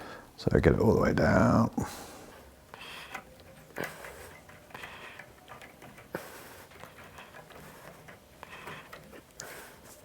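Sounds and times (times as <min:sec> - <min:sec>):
cable rustling: 0:02.0 - 0:10.0.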